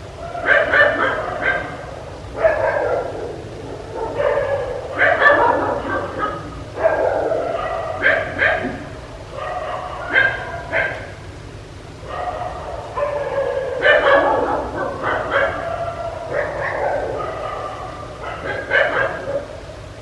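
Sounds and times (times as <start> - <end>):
dogs barking: 0.0 - 20.0.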